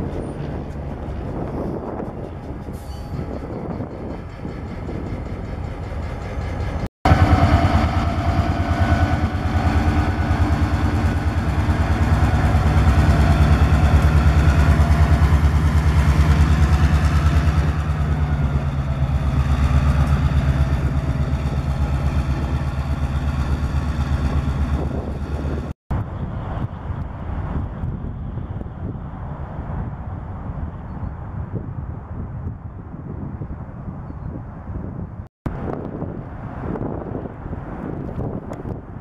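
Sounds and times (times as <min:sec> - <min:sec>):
diesel locomotive engine rumbling: 0:00.0 - 0:32.4.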